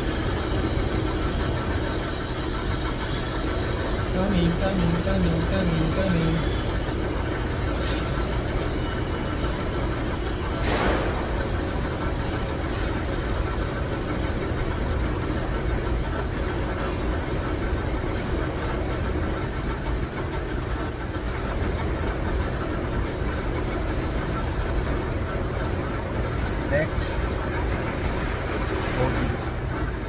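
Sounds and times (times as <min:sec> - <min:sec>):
machinery rumbling: 0:00.0 - 0:22.1, 0:23.6 - 0:30.0.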